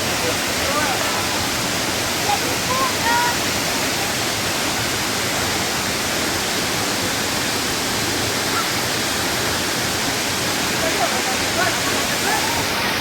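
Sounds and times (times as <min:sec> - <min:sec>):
waterfall rushing and splashing: 0:00.0 - 0:13.0.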